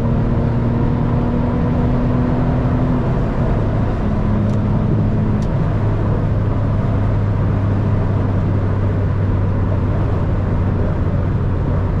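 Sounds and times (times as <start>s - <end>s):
car engine droning in cabin: 0.0s - 12.0s.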